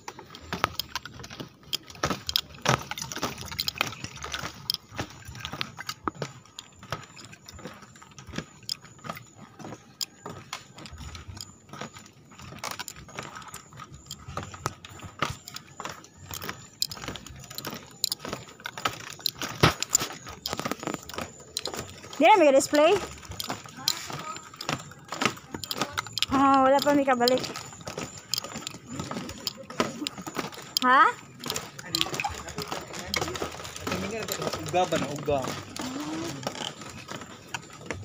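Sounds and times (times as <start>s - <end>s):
footsteps on bamboo slats: 0.0s - 38.0s.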